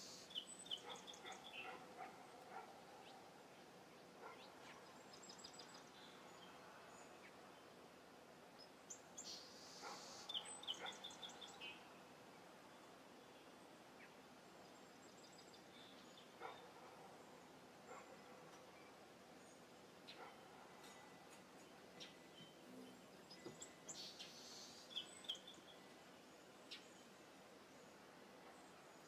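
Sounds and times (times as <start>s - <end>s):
birds chirping: 0.0s - 29.0s
low steady hiss: 0.0s - 29.0s.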